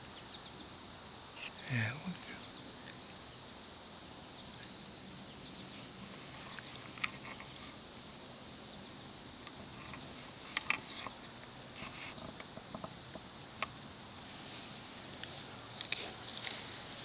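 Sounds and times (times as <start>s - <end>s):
insect trilling: 0.0s - 14.3s
creekside ambience: 0.0s - 17.0s.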